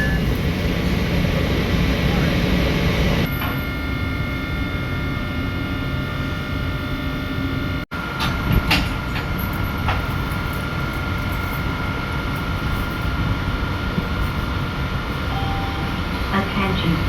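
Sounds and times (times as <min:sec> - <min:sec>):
locomotive hum: 0:00.0 - 0:17.0.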